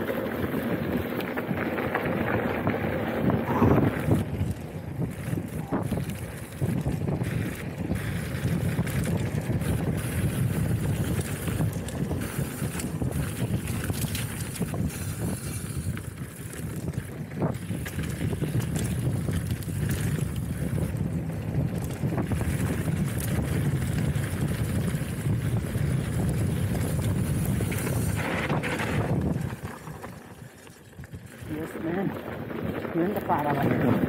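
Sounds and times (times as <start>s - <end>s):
wind rushing over microphone: 2.2s - 30.2s.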